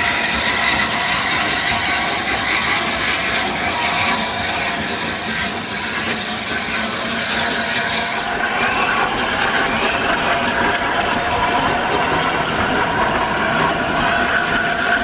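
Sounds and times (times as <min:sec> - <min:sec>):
steam locomotive hissing: 0:00.0 - 0:15.0
train running noise: 0:00.0 - 0:15.0.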